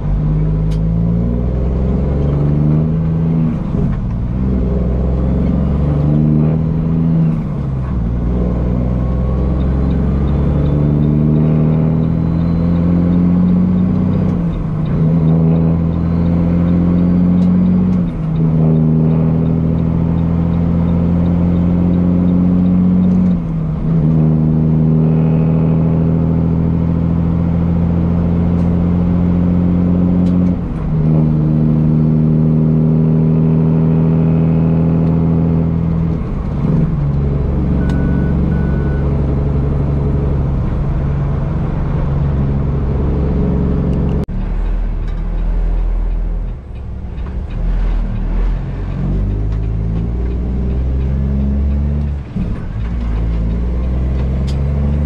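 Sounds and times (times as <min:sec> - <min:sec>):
truck diesel exhaust roaring: 0:00.0 - 0:55.0.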